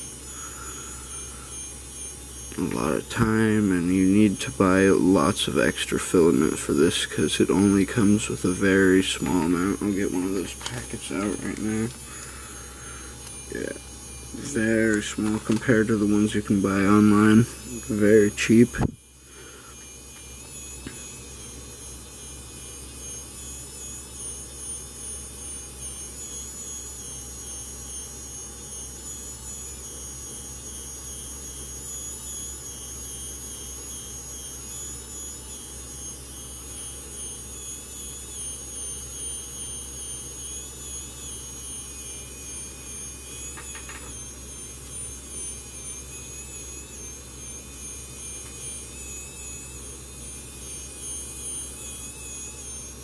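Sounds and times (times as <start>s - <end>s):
high-pitched whine: 0.0s - 53.0s
small motor whirring: 0.0s - 53.0s.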